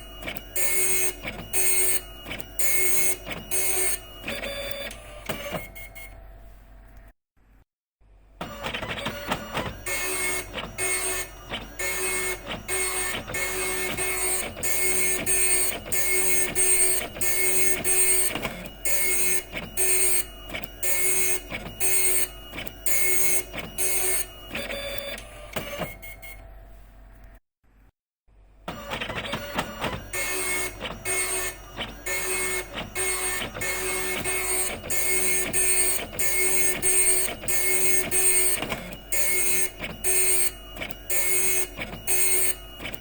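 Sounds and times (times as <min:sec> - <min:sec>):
dot matrix printer buzzing: 0:00.0 - 0:06.0, 0:08.4 - 0:26.3, 0:28.7 - 0:43.0.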